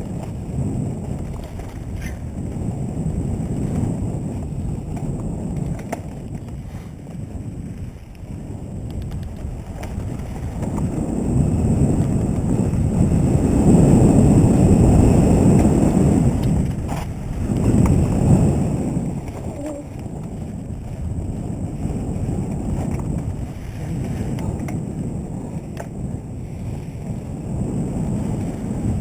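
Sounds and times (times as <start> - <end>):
bike rolling on dirt trail: 0.0 - 29.0
wind buffeting microphone: 0.0 - 29.0.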